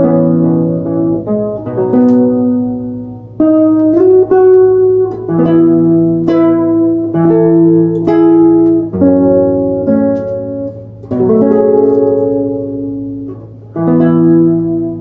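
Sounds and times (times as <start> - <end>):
slow plucked guitar melody: 0.0 - 15.0.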